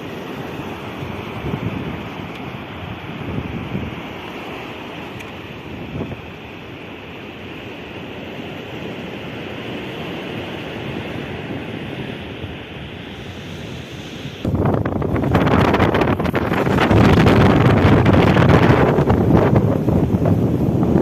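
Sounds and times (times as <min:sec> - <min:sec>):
strong wind rushing: 0:00.0 - 0:06.6, 0:09.6 - 0:21.0
wind buffeting microphone: 0:00.0 - 0:07.5, 0:08.4 - 0:21.0.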